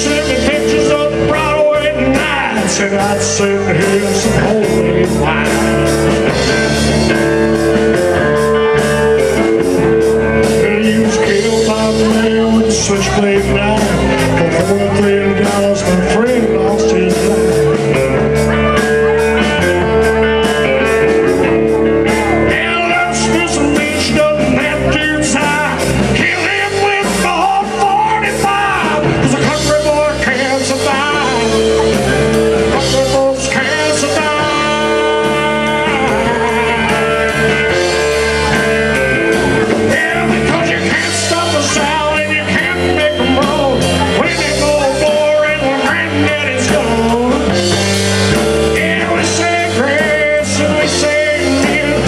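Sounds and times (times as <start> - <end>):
country band playing: 0.0 - 52.0.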